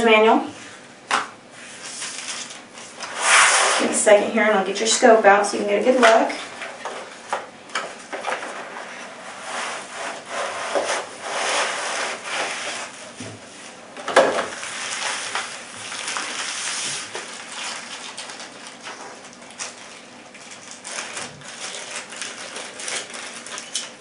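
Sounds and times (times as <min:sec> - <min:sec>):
cardboard and plastic packaging rustling: 0:01.6 - 0:03.0, 0:05.9 - 0:24.0.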